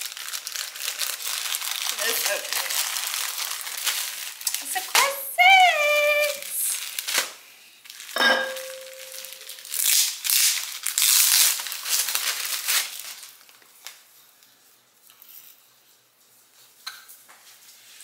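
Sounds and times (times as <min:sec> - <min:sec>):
plastic packaging crinkling and tearing: 0:00.0 - 0:14.6.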